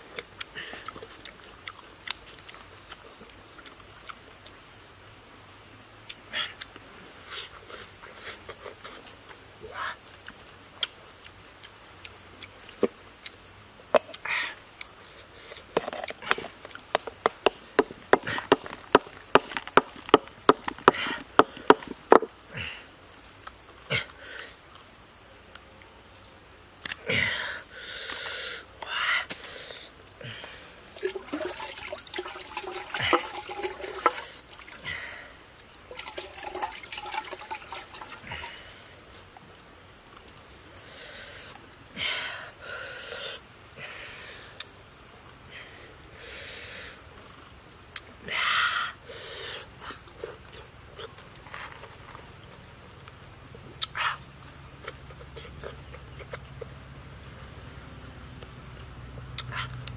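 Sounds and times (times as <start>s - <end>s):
high insect drone: 0.0s - 59.9s.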